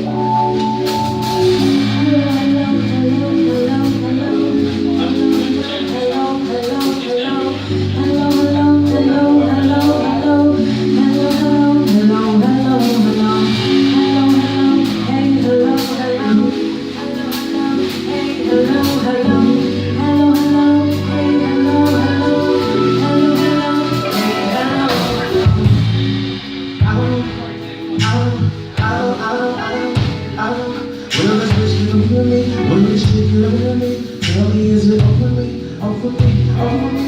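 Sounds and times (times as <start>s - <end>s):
band playing soul groove: 0.0s - 37.0s.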